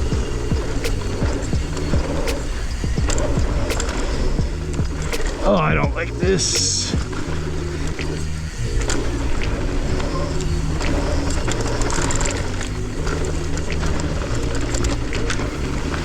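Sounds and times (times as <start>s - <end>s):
bike clicks and rattles: 0.0s - 16.0s
low bass line music: 0.0s - 16.0s
tyre and wind rush: 0.0s - 16.0s.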